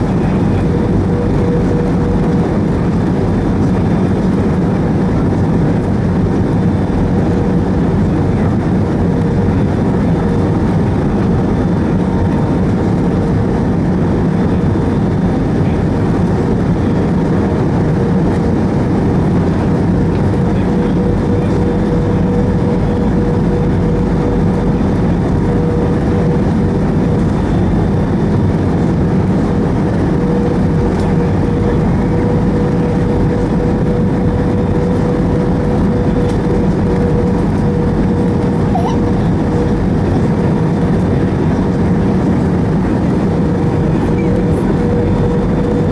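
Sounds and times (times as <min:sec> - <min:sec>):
aircraft cabin engine rumble: 0:00.0 - 0:45.9
thin steady whine: 0:00.0 - 0:45.9.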